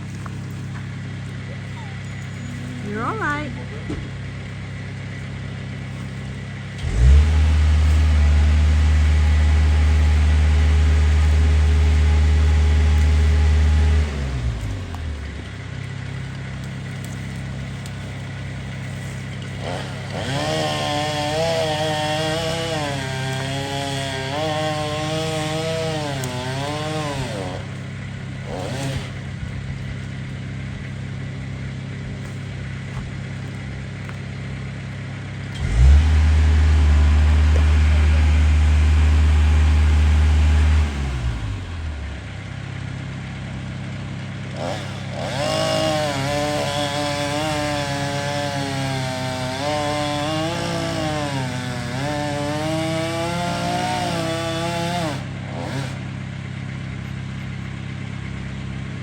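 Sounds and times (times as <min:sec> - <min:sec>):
chainsaw cutting: 0:00.0 - 0:57.7
engine hum: 0:00.0 - 0:59.0.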